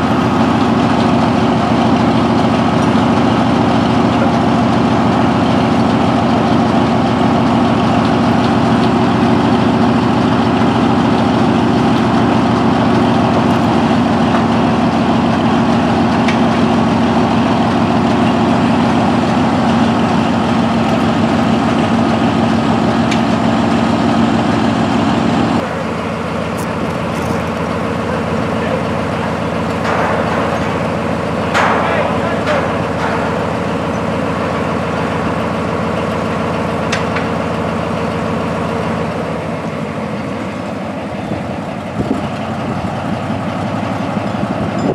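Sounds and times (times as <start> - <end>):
crane engine idling: 0.0 - 44.9.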